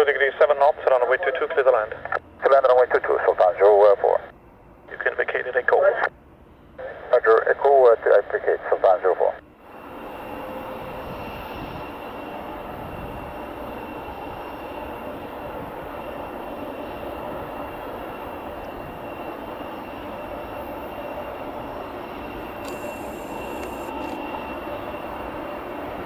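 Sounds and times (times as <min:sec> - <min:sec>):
jet engines rumbling with whine: 0:00.0 - 0:26.0.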